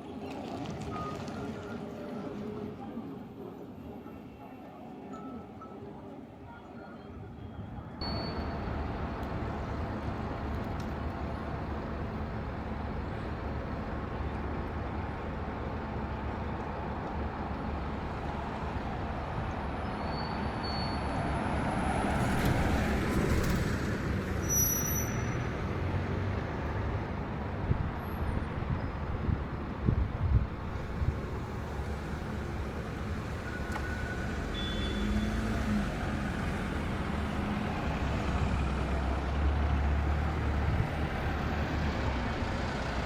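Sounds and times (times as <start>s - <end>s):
traffic rumble: 8.0s - 43.0s.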